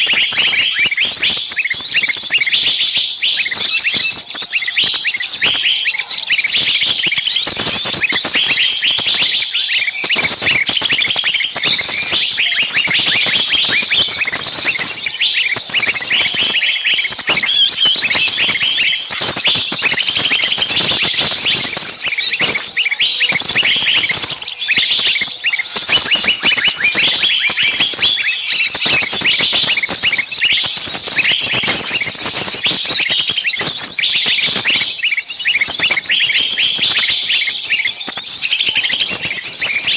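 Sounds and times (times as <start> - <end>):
small songbirds chirping shrilly: 0.0 - 39.9.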